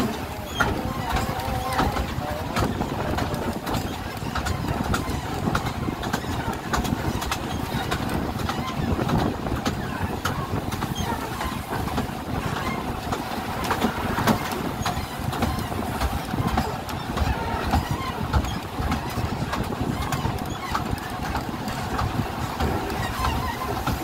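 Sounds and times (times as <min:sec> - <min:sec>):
railway carriage rumbling and rattling: 0:00.0 - 0:24.0
wheels clicking and knocking: 0:00.0 - 0:24.0.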